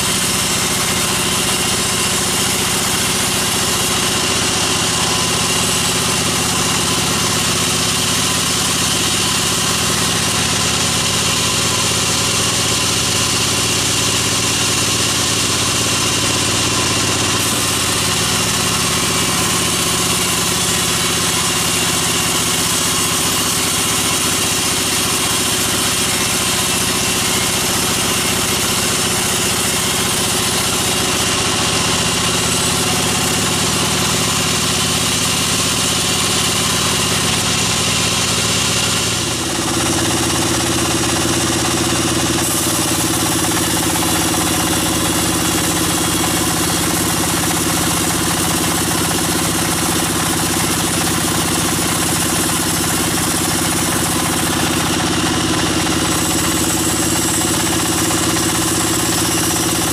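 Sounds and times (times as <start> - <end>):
band sawmill humming: 0.0 - 59.9.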